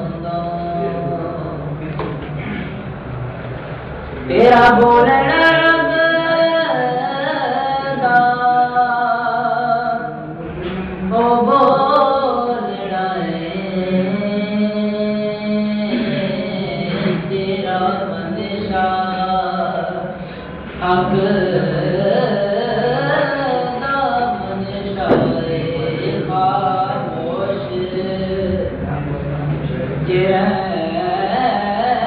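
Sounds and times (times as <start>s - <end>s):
person singing long held notes: 0.0s - 1.9s, 4.2s - 29.2s.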